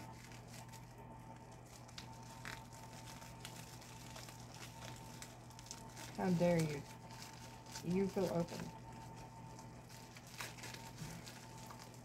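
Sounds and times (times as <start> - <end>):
faint steady hum: 0.0 - 12.0
plastic packaging crinkling: 0.0 - 12.0.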